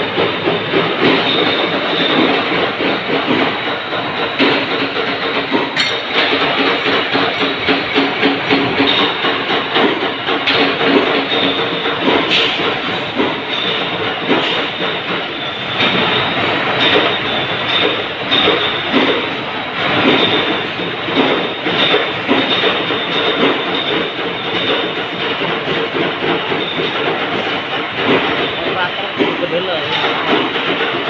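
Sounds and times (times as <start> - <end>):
metallic clacks: 0.0 - 31.0.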